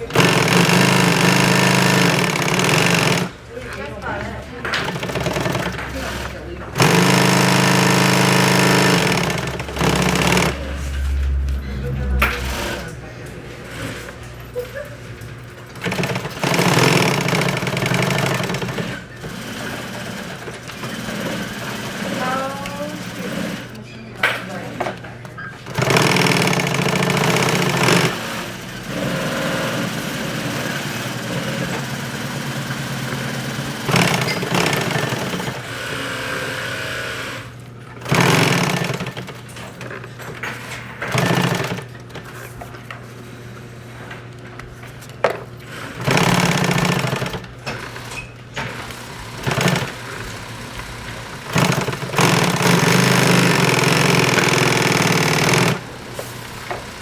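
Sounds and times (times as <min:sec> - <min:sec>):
sewing machine stitching: 0:00.0 - 0:11.1, 0:15.7 - 0:23.8, 0:25.6 - 0:42.4, 0:45.6 - 0:57.0.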